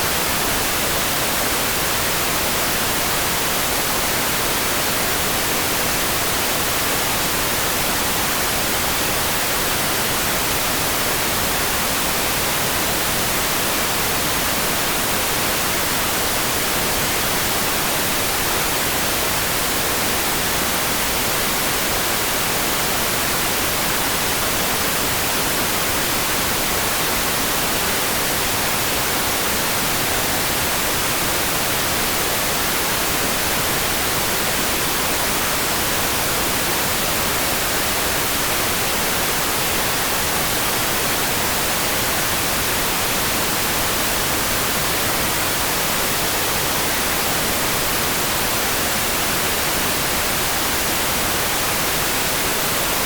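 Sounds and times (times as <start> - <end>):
steady hiss of rain: 0.0 - 53.0.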